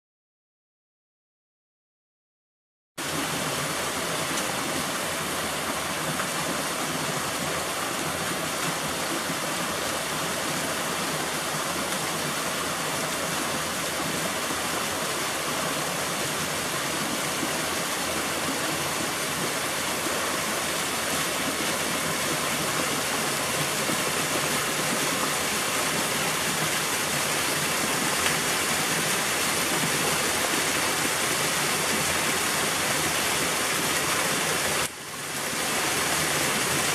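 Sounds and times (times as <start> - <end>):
waterfall splashing into pool: 3.0 - 36.9.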